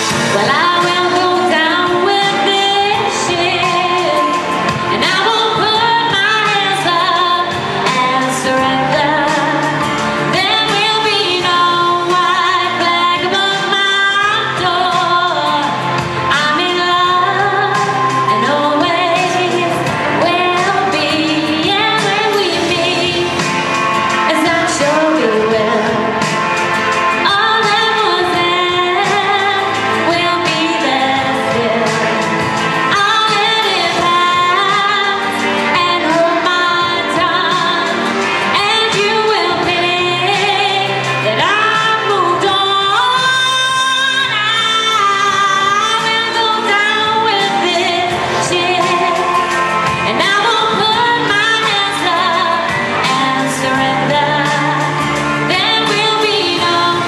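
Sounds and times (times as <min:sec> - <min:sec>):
instrumental accompaniment: 0:00.0 - 0:57.0
woman singing into microphone: 0:00.0 - 0:57.0.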